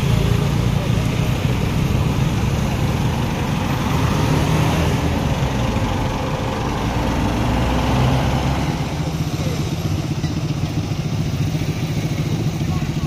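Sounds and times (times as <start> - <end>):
car rolling past: 0.0 - 11.7
truck engine humming: 0.0 - 13.0.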